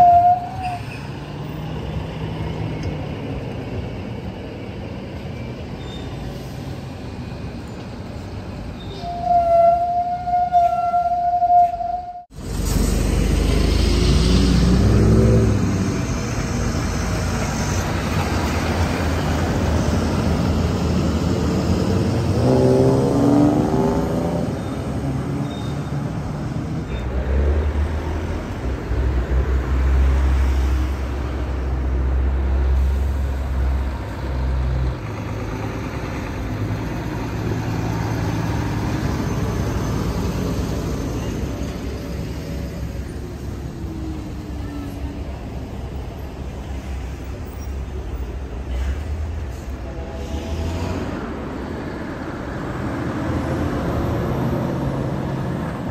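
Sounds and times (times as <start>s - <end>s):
tyre and road noise: 0.0s - 55.9s.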